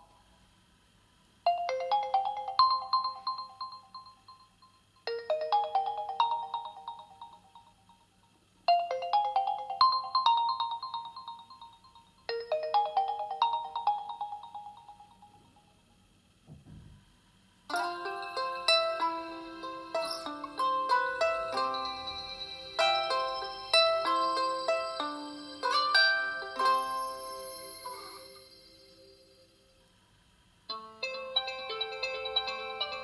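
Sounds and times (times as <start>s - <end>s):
phone ringtone melody: 1.5s - 8.0s, 8.7s - 15.7s, 17.7s - 29.6s, 31.0s - 33.0s.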